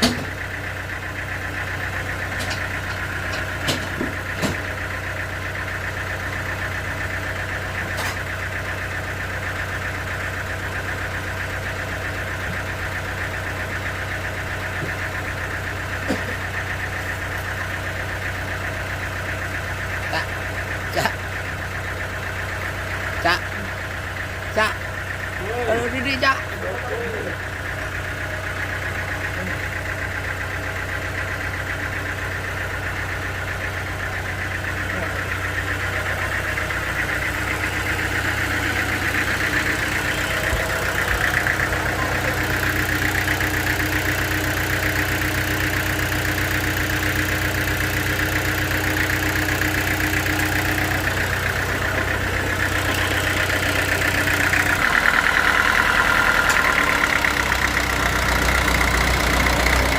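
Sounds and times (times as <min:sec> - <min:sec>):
sawmill machinery hum and whir: 0:00.0 - 0:23.1, 0:23.8 - 0:59.9.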